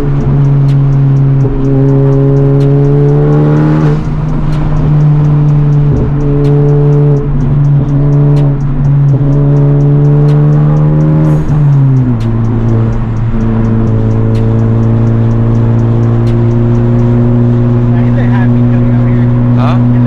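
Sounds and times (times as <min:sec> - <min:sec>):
car engine droning while cruising: 0:00.0 - 0:20.0.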